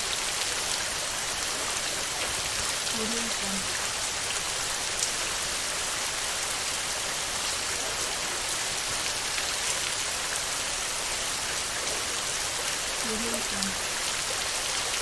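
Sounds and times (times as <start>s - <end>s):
rain on a tin roof: 0.0s - 15.0s.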